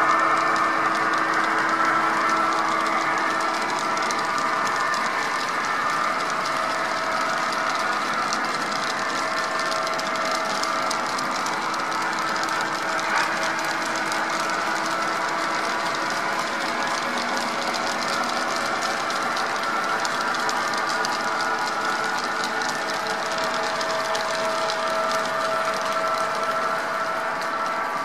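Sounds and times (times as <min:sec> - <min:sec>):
model train rolling: 0:00.0 - 0:28.0
wheels clicking on rails: 0:00.0 - 0:28.0.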